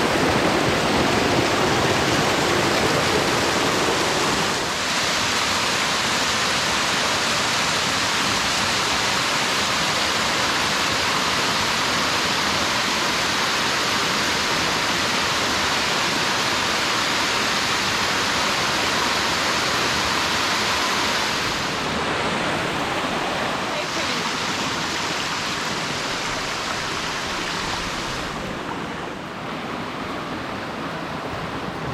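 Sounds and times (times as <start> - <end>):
rushing water: 0.0 - 31.9.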